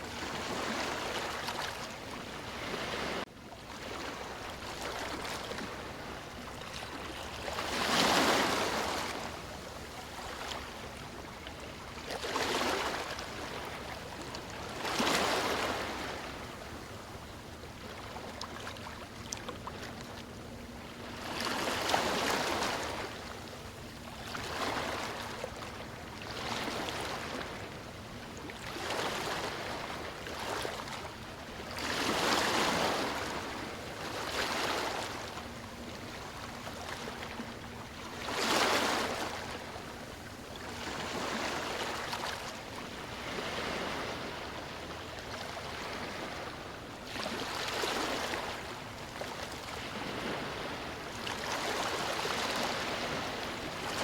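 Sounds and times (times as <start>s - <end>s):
sea waves breaking on beach: 0.0s - 6.2s, 6.8s - 10.9s, 12.1s - 16.8s, 21.0s - 54.0s.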